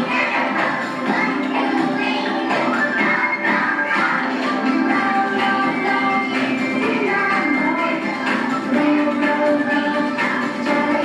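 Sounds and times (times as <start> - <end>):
person singing over backing music: 0.0 - 11.0.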